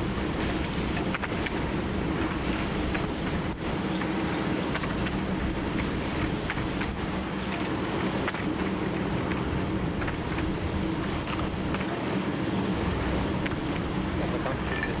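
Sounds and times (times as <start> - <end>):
wheels clicking over rail joints: 0.0 - 12.1, 12.8 - 15.0
diesel locomotive engine running: 0.0 - 15.0.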